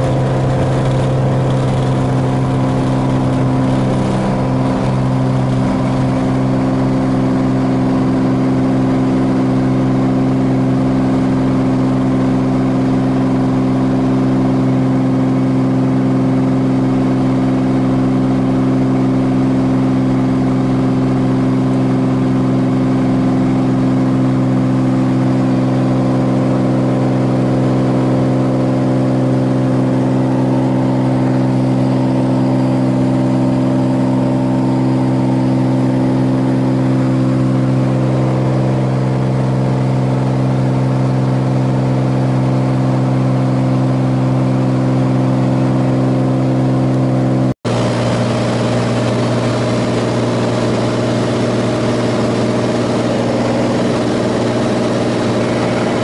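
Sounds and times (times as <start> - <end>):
airplane engine and propeller hum: 0.0 - 56.0.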